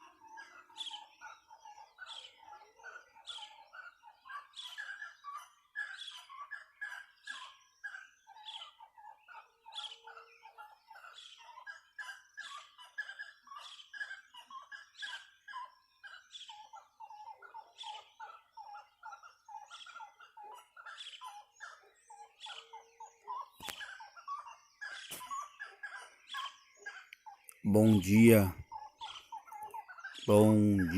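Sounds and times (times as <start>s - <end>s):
forest animals calling: 0.0s - 30.9s.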